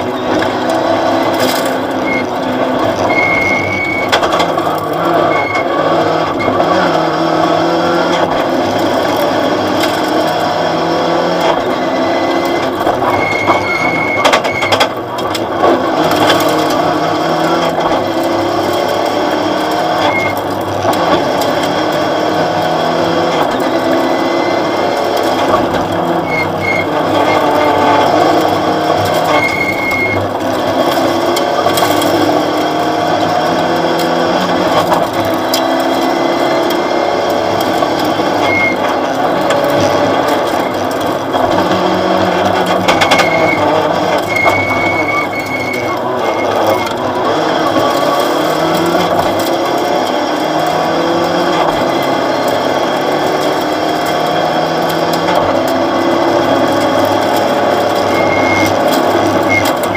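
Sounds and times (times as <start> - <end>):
rally car engine revving: 0.0 - 59.9
transmission and cabin rattle: 0.2 - 52.5, 55.2 - 59.9.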